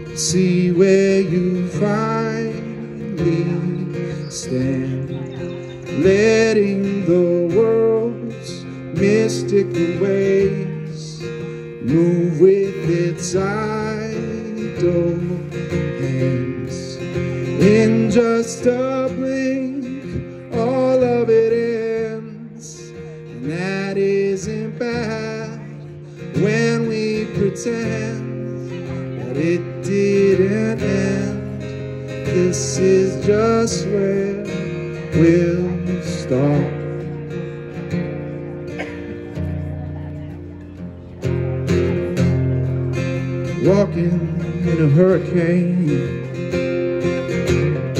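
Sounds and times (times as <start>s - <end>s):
man singing: 0.0s - 37.4s, 42.0s - 47.9s
acoustic guitar strummed and picked: 0.0s - 47.9s.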